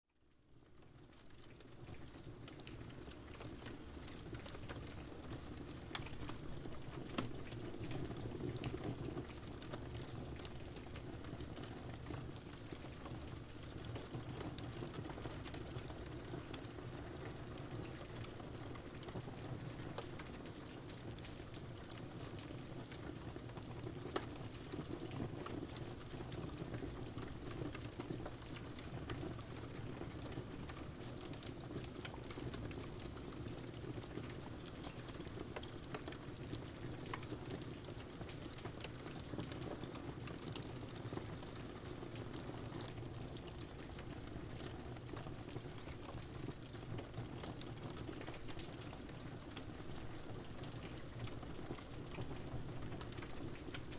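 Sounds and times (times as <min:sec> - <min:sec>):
steady rain: 0:00.6 - 0:53.9.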